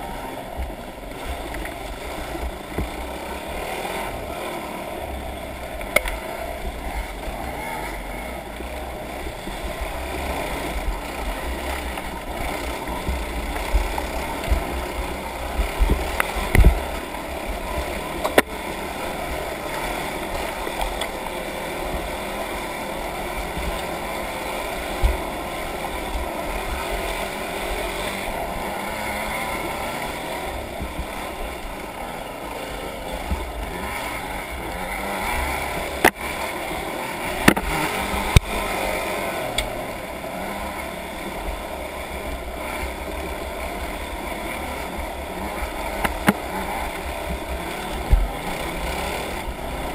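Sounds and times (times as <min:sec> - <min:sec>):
off-road vehicle engine running: 0:00.0 - 0:49.9.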